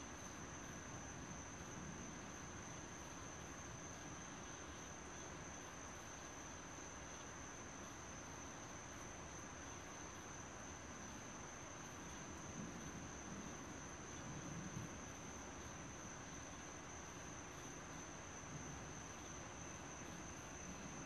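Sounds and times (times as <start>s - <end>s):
crickets trilling: 0.0s - 21.0s
low background hiss: 0.0s - 21.0s.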